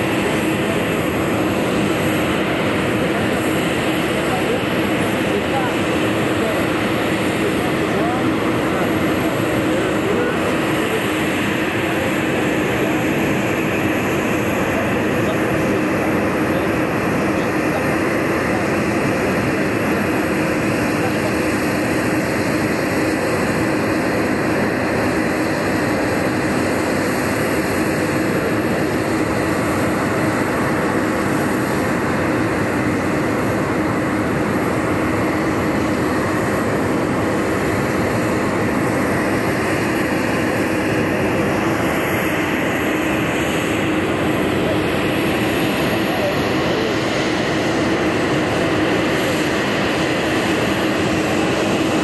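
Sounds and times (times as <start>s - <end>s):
jet engines rushing in flight: 0.0s - 52.0s.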